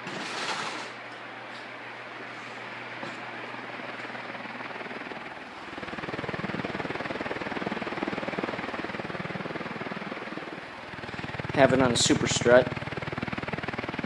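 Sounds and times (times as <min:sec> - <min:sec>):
ceiling fan blades whooshing: 0:00.0 - 0:14.0.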